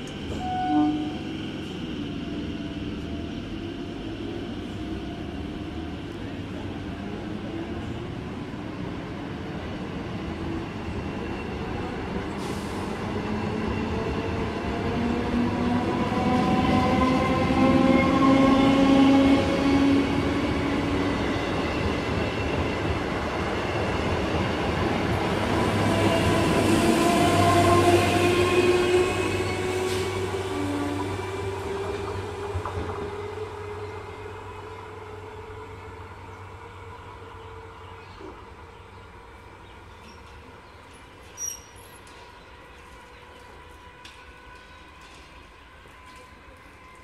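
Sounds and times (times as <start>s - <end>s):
train wheels rumbling on rails: 0.0s - 39.0s, 39.6s - 47.0s.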